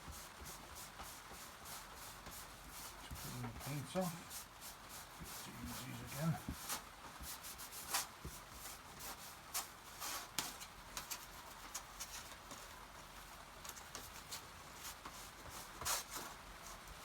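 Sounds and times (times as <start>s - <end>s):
cloth rag wiping and rubbing: 0.0s - 12.4s, 13.7s - 17.0s.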